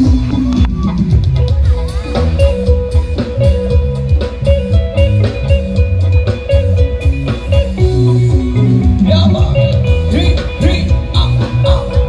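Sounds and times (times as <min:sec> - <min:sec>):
band music: 0:00.0 - 0:12.0
electric guitar bending notes: 0:00.0 - 0:12.0.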